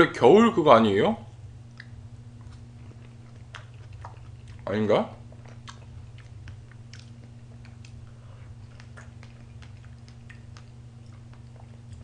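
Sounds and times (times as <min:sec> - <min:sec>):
low electrical hum: 0:00.0 - 0:12.0
mouth chewing wet smacking: 0:01.7 - 0:12.0.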